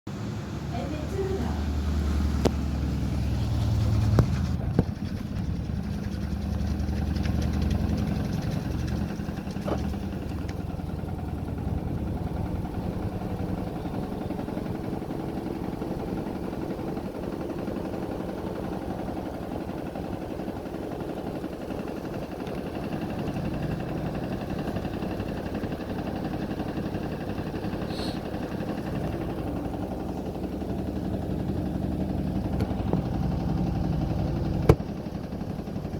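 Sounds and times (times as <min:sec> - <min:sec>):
washing machine motor hum: 0:00.1 - 0:35.9.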